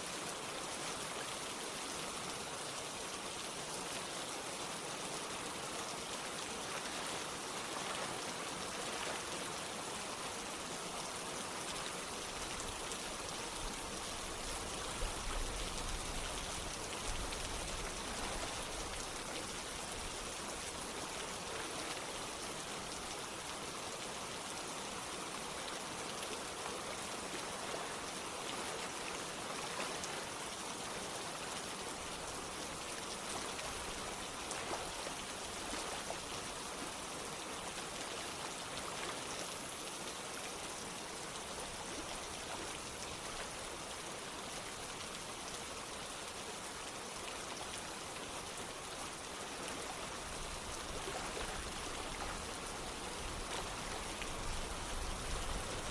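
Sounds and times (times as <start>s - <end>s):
rain falling: 0.0s - 55.9s
running water rushing: 0.0s - 55.9s.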